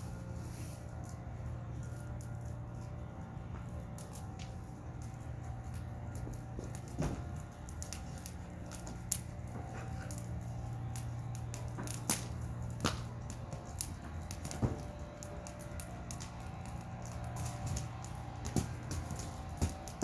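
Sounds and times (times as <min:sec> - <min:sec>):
wood fire crackling: 0:00.0 - 0:20.0
fire pops and snaps: 0:03.6 - 0:20.0.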